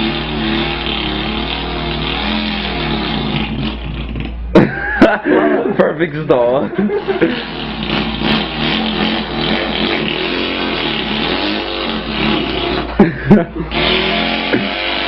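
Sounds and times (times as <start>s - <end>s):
man imitating an engine: 0.0s - 15.0s.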